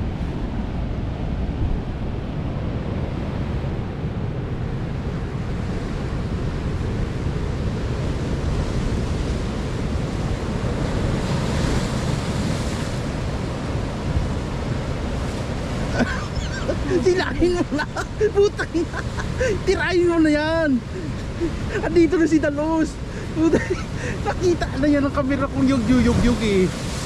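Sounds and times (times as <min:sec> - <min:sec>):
ocean surf breaking over rocks: 0:00.0 - 0:27.0
wind buffeting microphone: 0:00.0 - 0:27.0.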